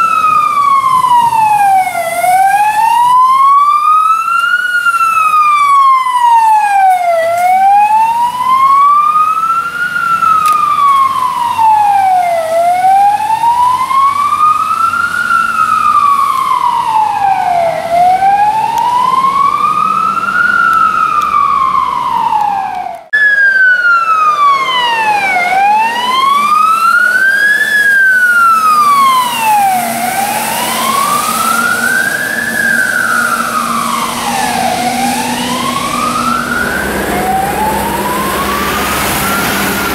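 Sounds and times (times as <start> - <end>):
fire engine siren wailing: 0.0 - 39.9.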